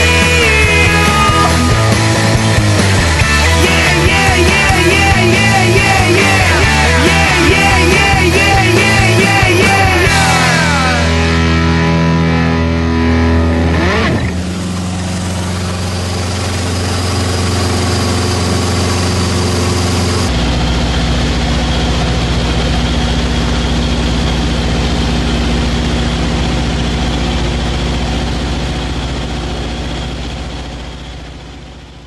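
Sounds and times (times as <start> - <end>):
airplane engine droning: 0.0 - 32.0.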